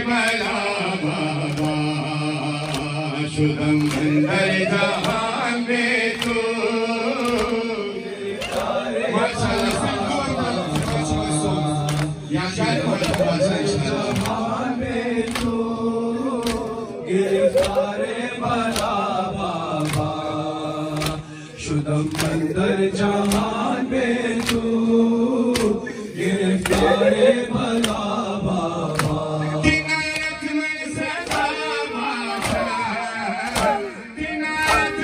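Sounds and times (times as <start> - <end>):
man singing a lament through microphone: 0.0 - 35.0
men beating their chests: 1.4 - 21.3, 22.1 - 24.9, 25.5 - 30.5, 31.1 - 35.0.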